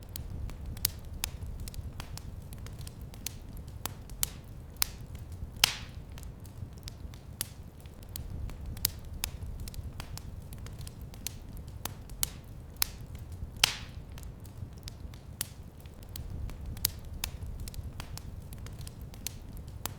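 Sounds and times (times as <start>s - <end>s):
fire crackling: 0.0s - 19.9s
low fire rumble: 0.0s - 19.9s
loud fire pops: 0.1s - 19.9s.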